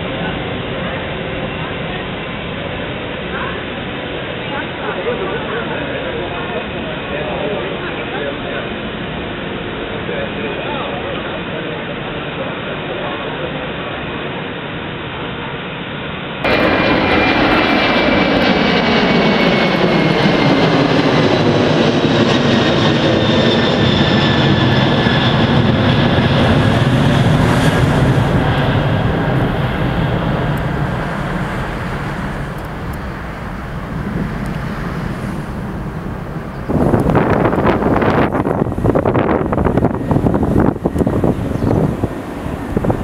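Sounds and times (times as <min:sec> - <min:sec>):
jet engines rumbling and whining: 0:00.0 - 0:43.0.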